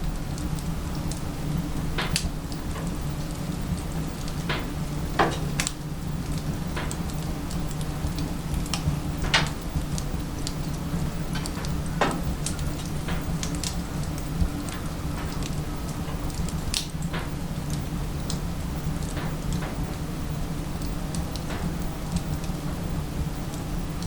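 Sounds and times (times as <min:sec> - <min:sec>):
firewood crackling in a stove: 0:00.0 - 0:24.0
steady low hum: 0:00.0 - 0:24.0.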